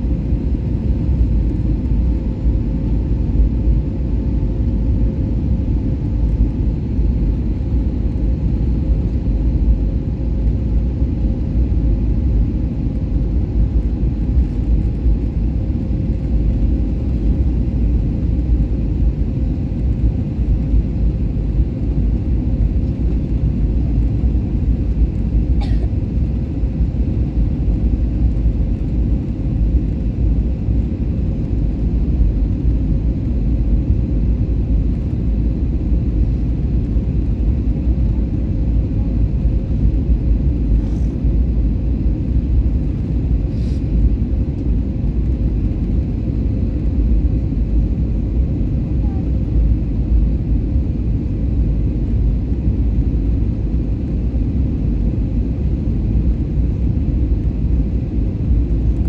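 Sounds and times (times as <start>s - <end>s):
airplane engine and airflow rumble: 0.0s - 59.0s
faint hum: 0.0s - 59.0s.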